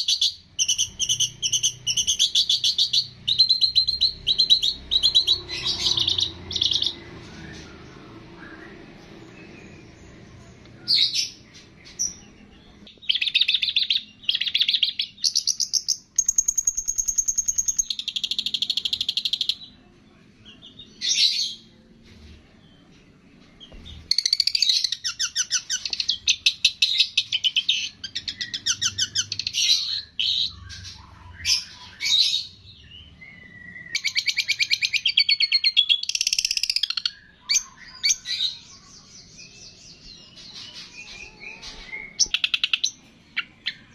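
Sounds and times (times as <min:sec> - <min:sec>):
songbird trills and chirps: 0:00.0 - 0:21.8, 0:22.6 - 0:43.9.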